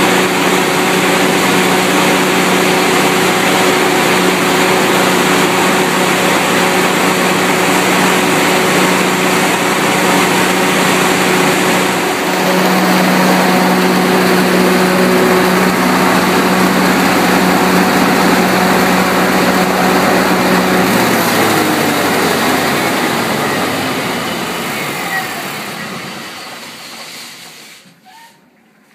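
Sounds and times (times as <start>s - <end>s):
generator engine running: 0.0s - 27.6s
engine winding down: 0.0s - 27.7s.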